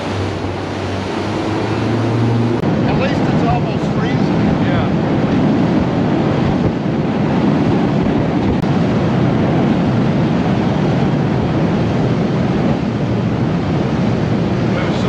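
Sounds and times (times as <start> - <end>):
boat motor running: 0.0 - 15.0
water rushing past hull: 0.0 - 15.0
wind buffeting microphone: 0.0 - 15.0.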